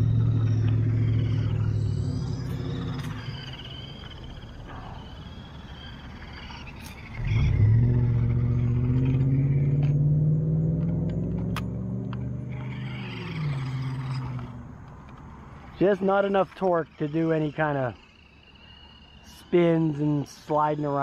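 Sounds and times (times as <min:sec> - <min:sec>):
toy truck electric motor whining: 0:00.0 - 0:10.0, 0:11.4 - 0:21.0.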